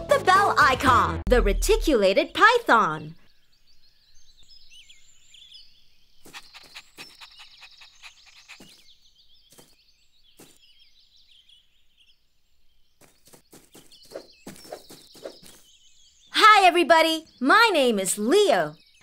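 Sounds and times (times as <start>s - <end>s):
small birds chirping: 1.9s - 19.0s.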